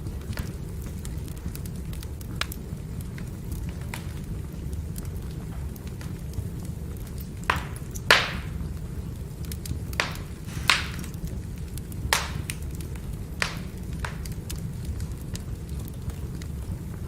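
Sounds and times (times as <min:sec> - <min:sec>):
firewood crackling and snapping: 0:00.0 - 0:17.0.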